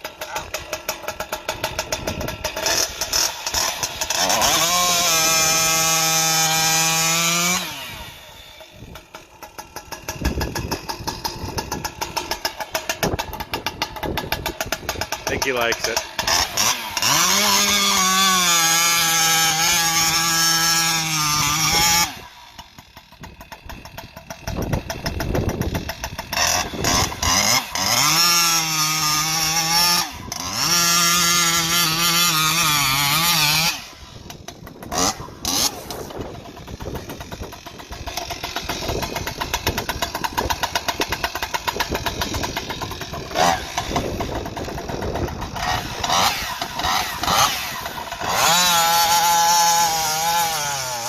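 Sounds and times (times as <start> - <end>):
chainsaw cutting wood at full throttle: 0.0 - 51.0
chainsaw idling roughly: 0.0 - 51.0.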